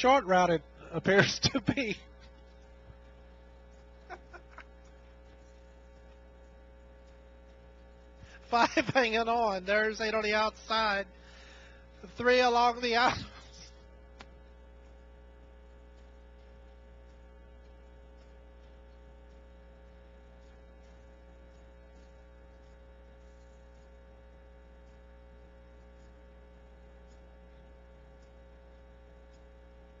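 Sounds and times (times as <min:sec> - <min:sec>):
faint electrical mains hum: 0:00.0 - 0:30.0.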